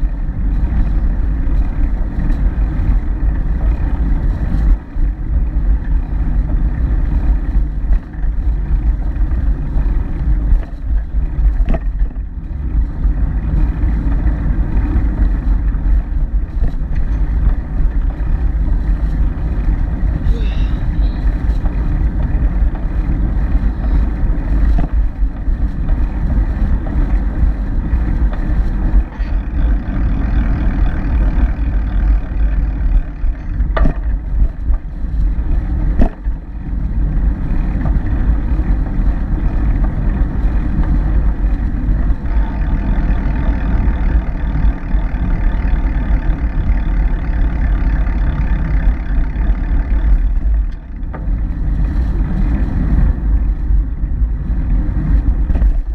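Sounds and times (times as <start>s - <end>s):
motor-like drone: 0.0s - 34.7s, 37.1s - 53.0s
wind buffeting microphone: 0.0s - 55.9s.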